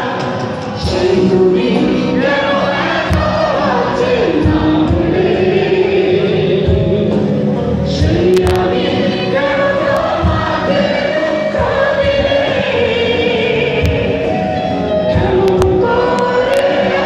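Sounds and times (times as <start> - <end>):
crowd singing along: 0.0 - 17.0
live band music: 0.0 - 17.0.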